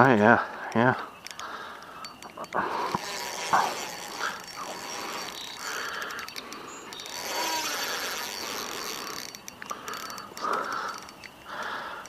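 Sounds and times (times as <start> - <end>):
fishing reel clicking and ratcheting: 0.7 - 12.0.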